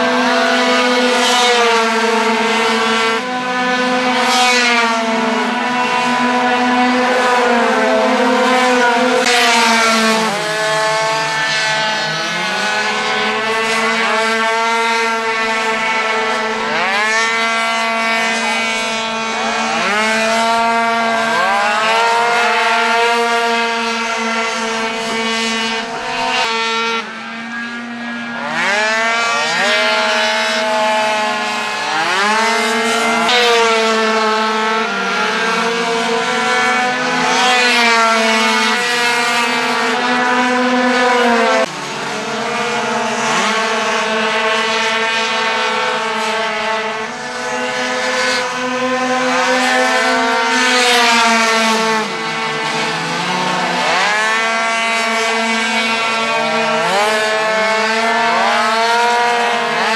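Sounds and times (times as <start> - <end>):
racing scooter engines revving: 0.0 - 59.9.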